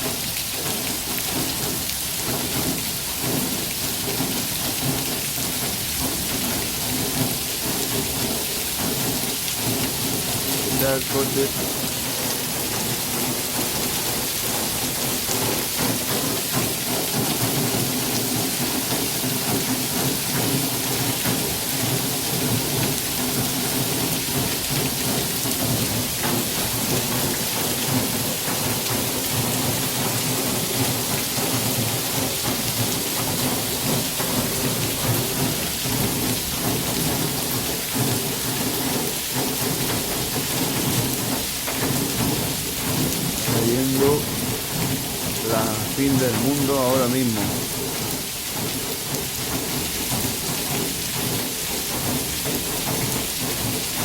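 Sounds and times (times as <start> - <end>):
torrential rain: 0.0 - 54.0.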